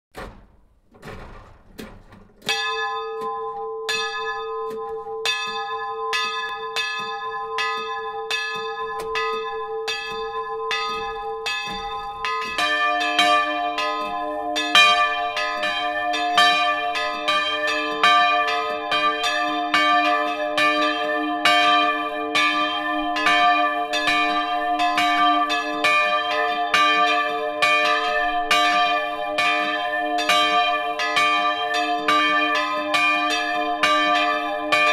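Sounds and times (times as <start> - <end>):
church bell ringing: 2.5 - 34.9
deeper church bell ringing: 2.5 - 34.9.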